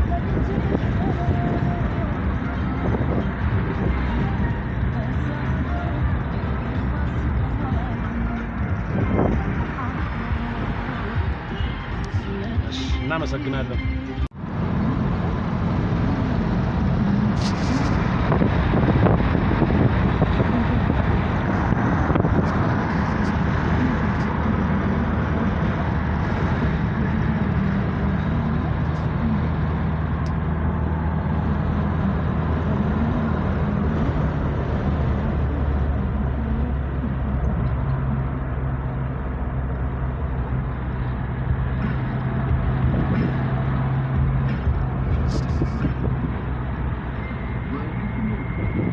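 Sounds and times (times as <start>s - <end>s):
diesel engine running: 0.0s - 48.9s
road and tyre noise: 0.0s - 48.9s.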